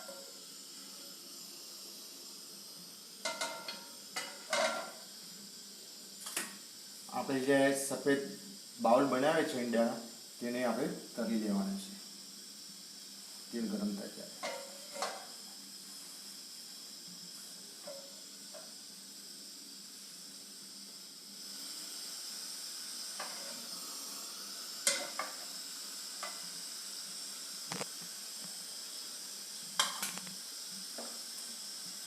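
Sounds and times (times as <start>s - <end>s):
oil sizzling in a frying pan: 0.0s - 32.0s.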